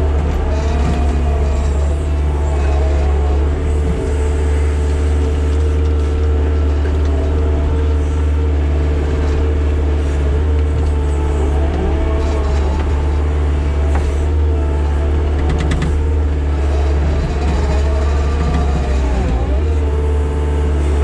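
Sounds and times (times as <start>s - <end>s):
digging machine engine running: 0.0s - 21.0s.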